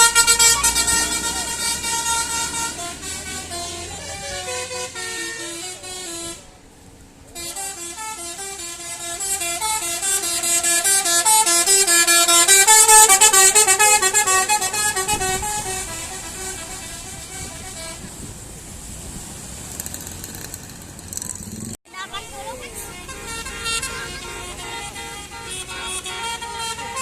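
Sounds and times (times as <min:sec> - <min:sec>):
multi-tone bus horn playing tune: 0:00.0 - 0:18.3, 0:22.4 - 0:27.0.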